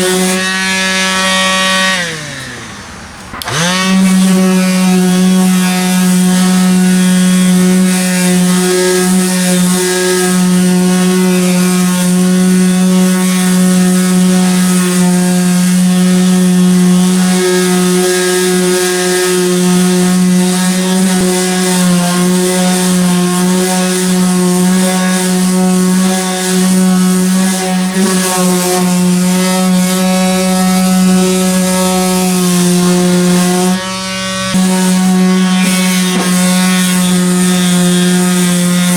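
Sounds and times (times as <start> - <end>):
electric sander running: 0.0 - 38.9.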